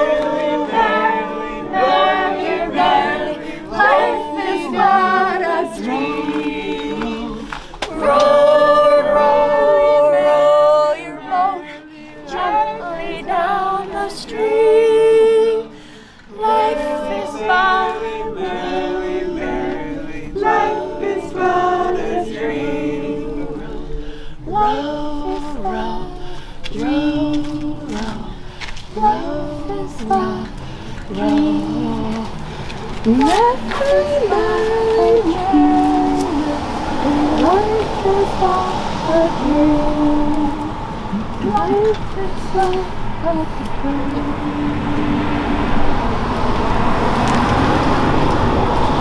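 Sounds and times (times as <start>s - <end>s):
group singing a cappella: 0.0s - 49.0s.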